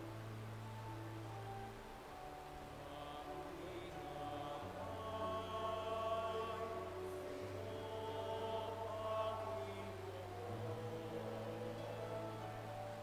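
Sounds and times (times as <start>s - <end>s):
choir singing a hymn: 1.3s - 13.0s.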